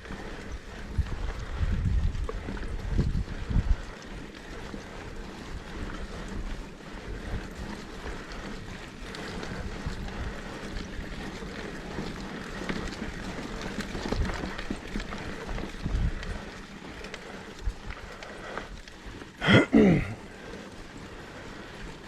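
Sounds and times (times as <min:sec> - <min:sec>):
wind buffeting microphone: 0:00.0 - 0:19.2
bike rattling over rough ground: 0:00.0 - 0:22.0
bike tyres on dirt trail: 0:00.0 - 0:22.0.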